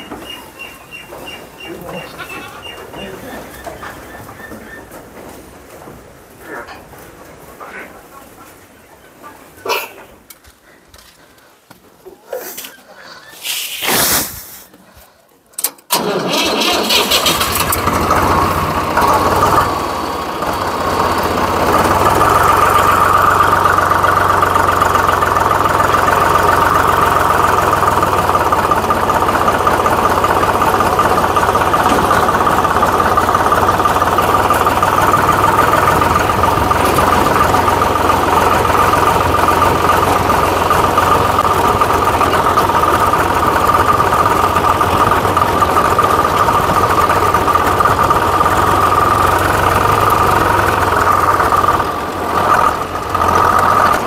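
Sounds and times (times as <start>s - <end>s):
tractor engine running: 0.0s - 7.6s, 15.5s - 54.0s.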